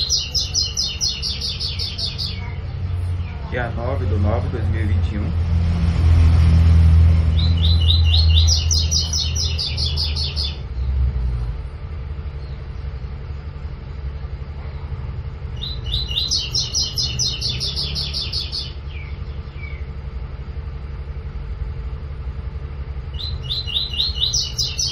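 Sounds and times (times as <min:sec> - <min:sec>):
low rumble: 0:00.0 - 0:24.9.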